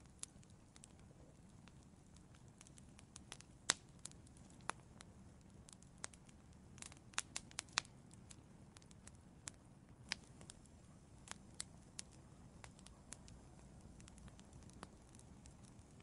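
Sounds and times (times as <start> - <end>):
low steady hiss: 0.0 - 16.0
wood fire crackling: 0.0 - 16.0.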